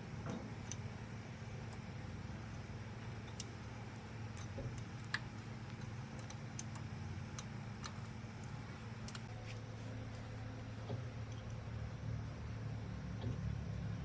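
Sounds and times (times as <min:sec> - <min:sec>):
faint steady low hum: 0:01.5 - 0:14.0.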